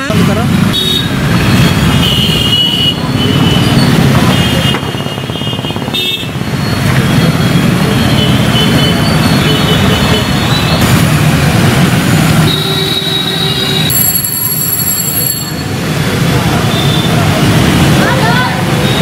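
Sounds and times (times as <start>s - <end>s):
motorcycle and car engines: 0.0s - 19.0s.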